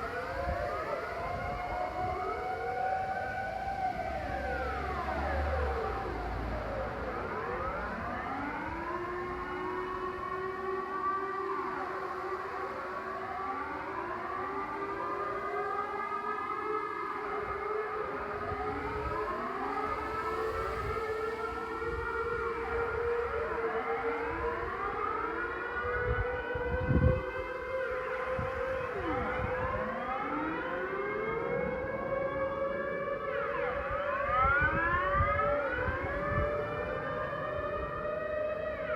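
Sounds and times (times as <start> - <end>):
air raid siren: 0.0 - 38.9.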